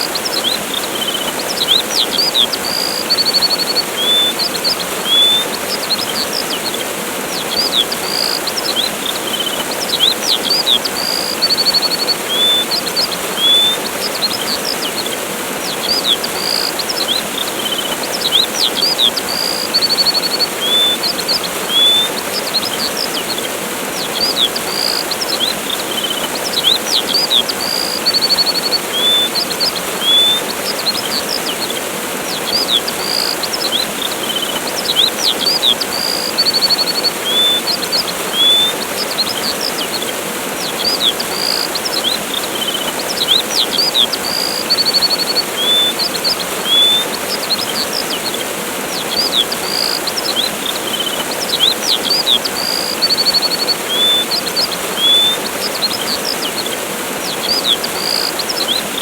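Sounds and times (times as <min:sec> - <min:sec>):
songbirds chirping and trilling: 0:00.0 - 0:59.0
waterfall rushing: 0:00.0 - 0:59.0.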